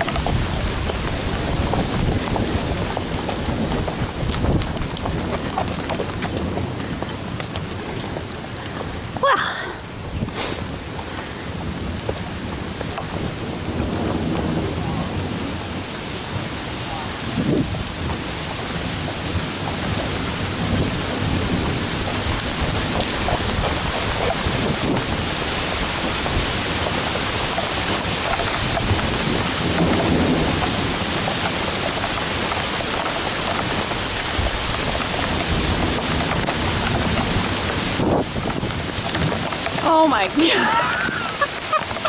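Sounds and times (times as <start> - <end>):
heavy rain pouring: 0.0 - 42.0
raindrops striking camera: 0.0 - 42.0.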